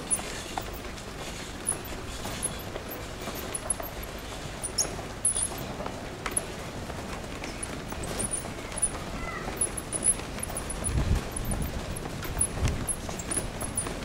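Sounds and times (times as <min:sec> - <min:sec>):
pram wheels rattling on bricks: 0:00.0 - 0:14.0.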